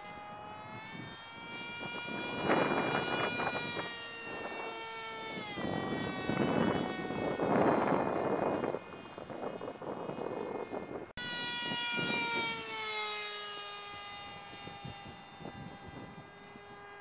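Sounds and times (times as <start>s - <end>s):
wind buffeting microphone: 0.0s - 12.8s, 13.5s - 17.0s
model airplane motor whining: 0.0s - 17.0s.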